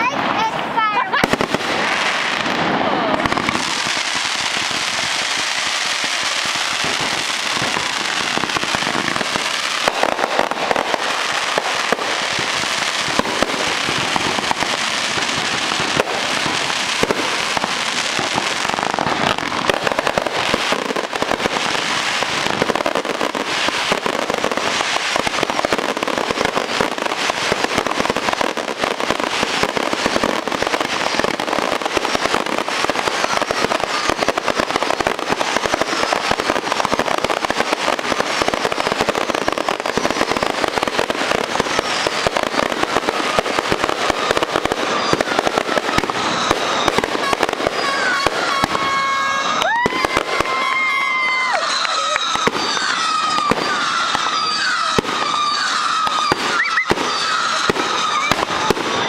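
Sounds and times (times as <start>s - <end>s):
fireworks crackling: 0.0s - 59.0s
fireworks pops: 0.0s - 59.0s.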